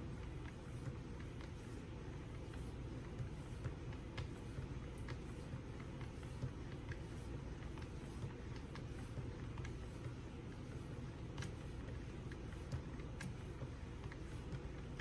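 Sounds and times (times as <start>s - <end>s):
light clicks and taps: 0.2s - 15.0s.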